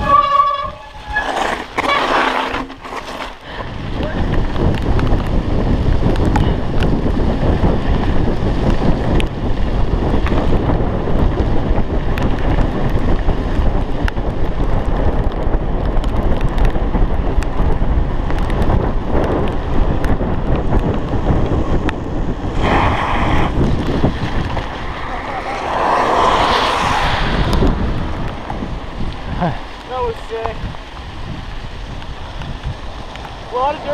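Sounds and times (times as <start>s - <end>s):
bike rattling over rough ground: 0.0s - 33.9s
wind rushing over microphone: 0.0s - 33.9s.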